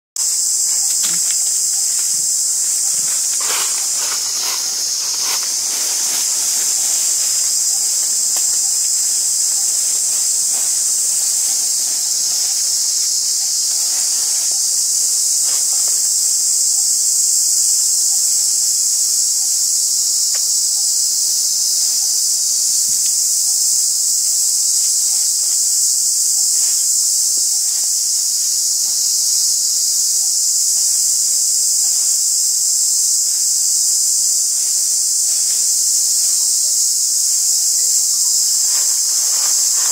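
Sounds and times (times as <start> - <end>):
insect chorus drone: 0.2 - 39.9.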